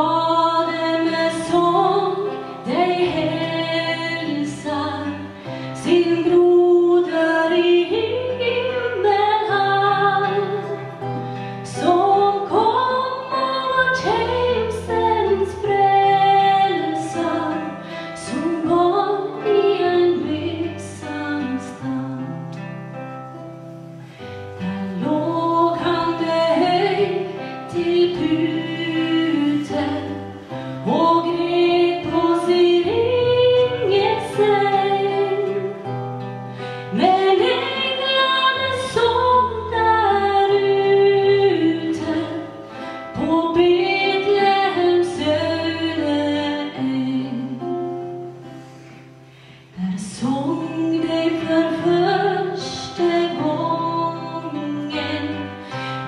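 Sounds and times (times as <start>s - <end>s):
woman singing a slow song: 0.0s - 23.0s, 24.2s - 56.0s
acoustic guitar: 0.0s - 56.0s.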